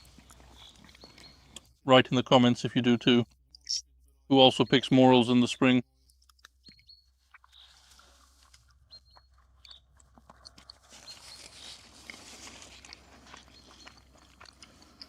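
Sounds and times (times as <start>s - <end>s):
faint chewing and crunching: 0.0s - 4.3s, 5.9s - 15.0s.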